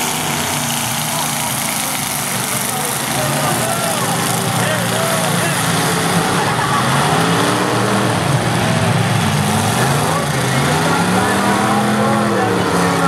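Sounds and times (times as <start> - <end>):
car engines revving: 0.0 - 13.0
loud mechanical noise: 0.0 - 13.0.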